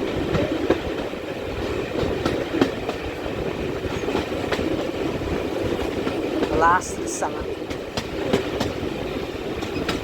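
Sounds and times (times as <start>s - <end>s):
train carriages rumbling: 0.0s - 10.0s.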